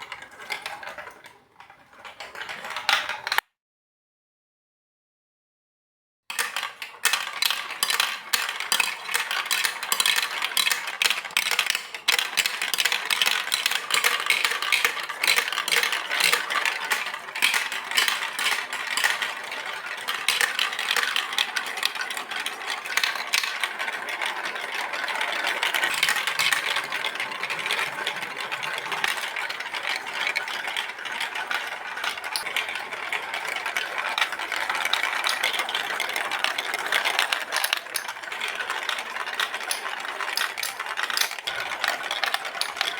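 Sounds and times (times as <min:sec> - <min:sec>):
marbles rattling down plastic track: 0:00.0 - 0:03.4, 0:06.3 - 0:42.9.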